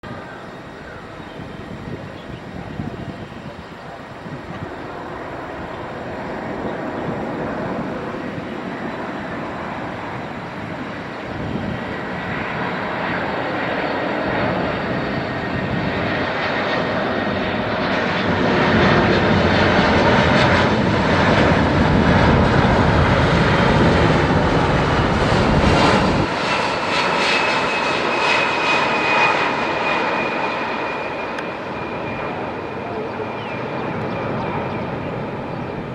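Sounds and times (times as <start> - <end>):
jet engines running: 0.0 - 35.9.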